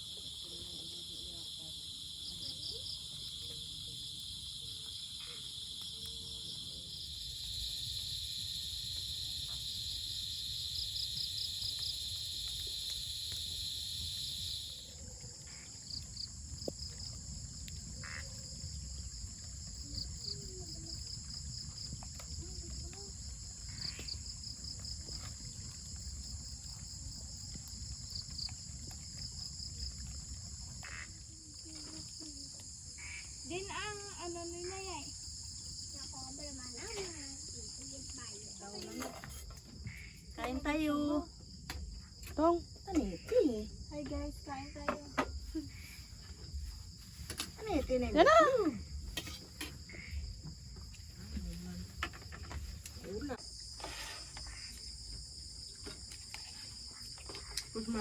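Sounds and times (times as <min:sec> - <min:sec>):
crickets and insects trilling: 0:00.0 - 0:58.0.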